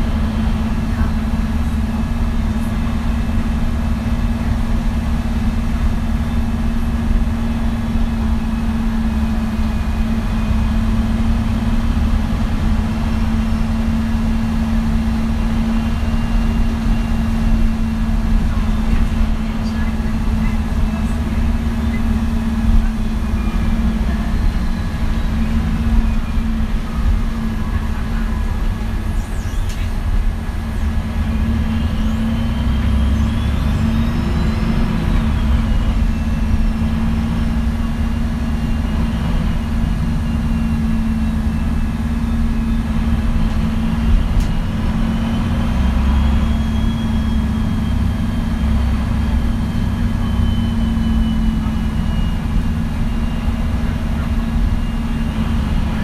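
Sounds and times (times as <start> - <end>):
bus diesel engine idling: 0.0 - 56.0.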